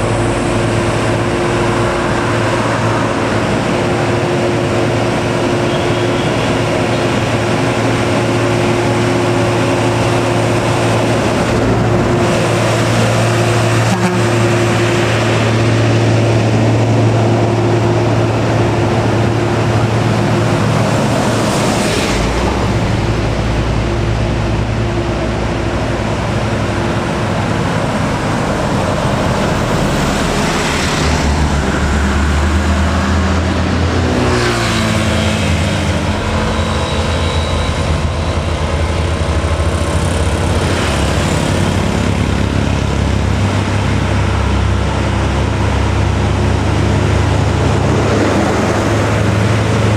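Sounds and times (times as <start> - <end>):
truck diesel engines labouring: 0.0 - 49.9.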